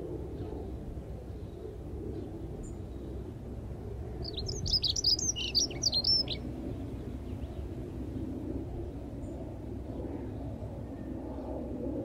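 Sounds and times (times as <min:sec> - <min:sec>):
songbird singing: 0:00.0 - 0:11.6
low outdoor rumble: 0:00.0 - 0:12.0.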